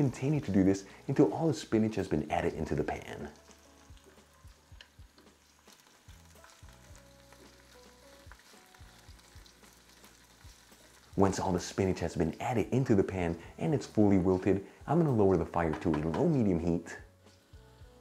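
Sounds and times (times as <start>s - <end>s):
spinach sizzling in oil: 0.0s - 15.6s, 16.3s - 18.0s.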